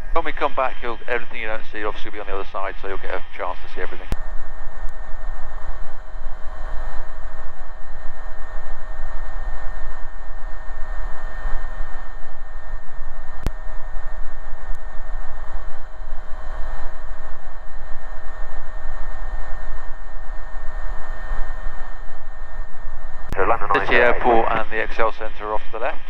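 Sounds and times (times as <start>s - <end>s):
constant whine: 0.0s - 26.0s
helicopter cabin drone: 0.0s - 26.0s.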